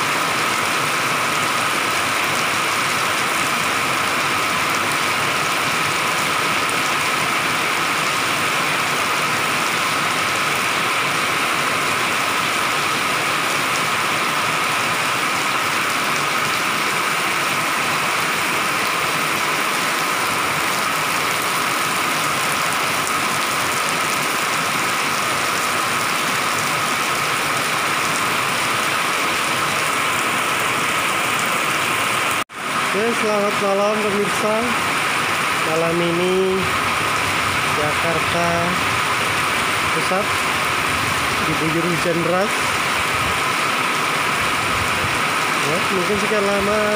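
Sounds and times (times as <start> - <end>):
heavy rain on pavement: 0.0 - 46.9.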